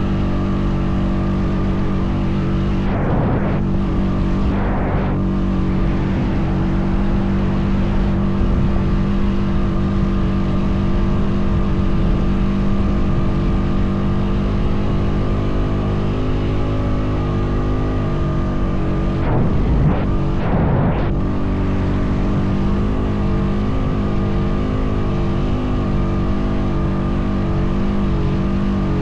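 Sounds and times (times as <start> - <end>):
atv engine running under load: 0.0 - 29.0.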